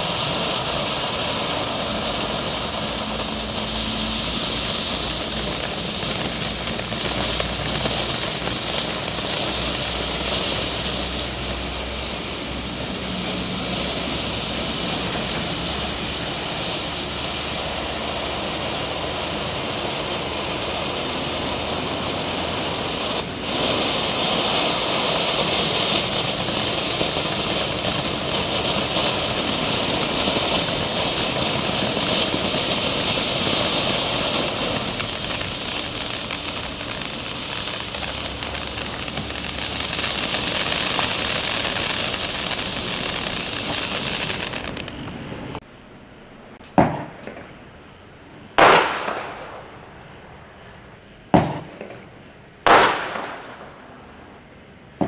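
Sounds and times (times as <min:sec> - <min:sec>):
fountain firework hissing: 0:00.0 - 0:45.7, 0:48.5 - 0:50.4, 0:51.3 - 0:55.0.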